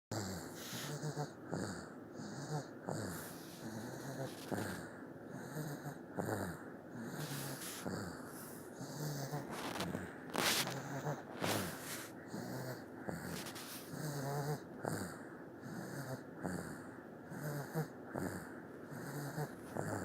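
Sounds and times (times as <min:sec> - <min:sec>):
baby snoring: 0:00.2 - 0:20.0.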